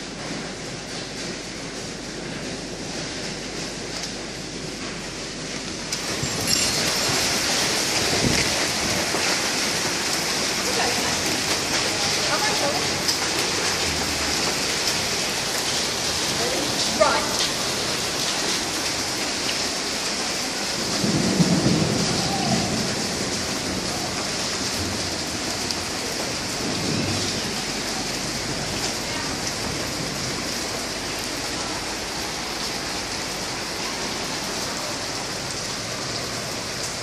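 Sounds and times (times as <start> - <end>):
heavy rain and hail on pavement: 0.0 - 37.0
thunder rumble: 0.0 - 37.0.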